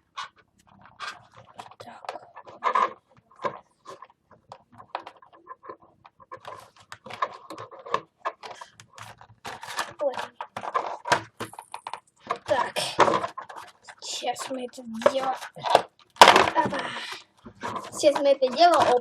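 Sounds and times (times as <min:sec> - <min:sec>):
packaging crinkling and clicking: 0:00.0 - 0:19.0.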